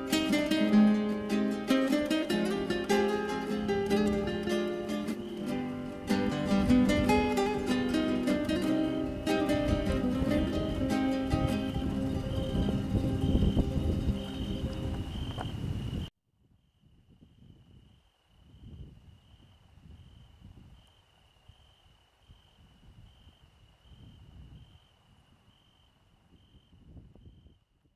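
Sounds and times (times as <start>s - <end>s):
insects chirping: 0.0s - 27.7s.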